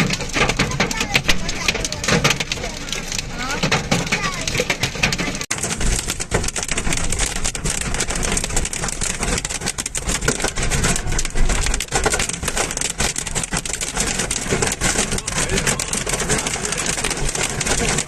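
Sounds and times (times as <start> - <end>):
hailstones clattering: 0.0 - 18.0
heavy rain rushing: 0.0 - 18.0.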